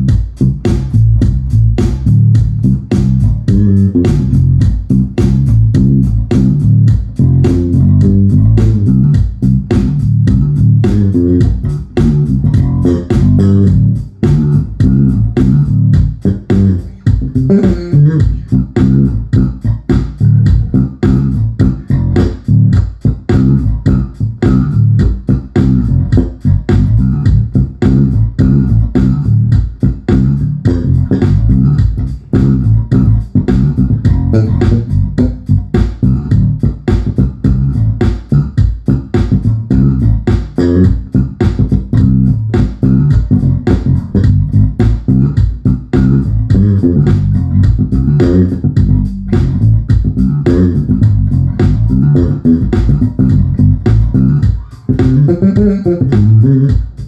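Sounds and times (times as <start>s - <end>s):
electric bass fingerstyle playing: 0.0s - 57.0s.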